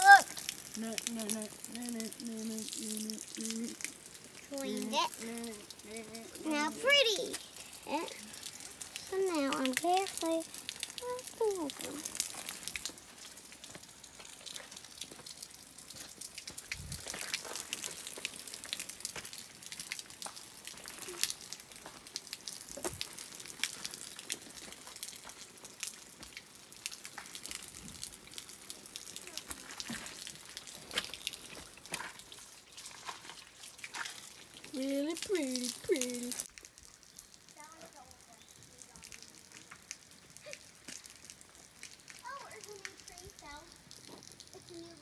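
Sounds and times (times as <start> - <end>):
stream trickling over rocks: 0.0 - 45.0.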